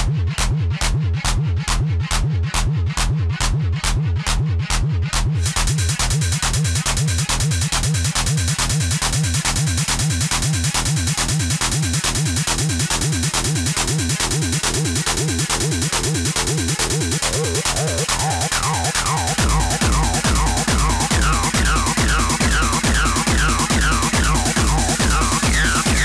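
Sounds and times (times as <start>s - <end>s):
techno kick drum and percussion: 0.0s - 26.0s.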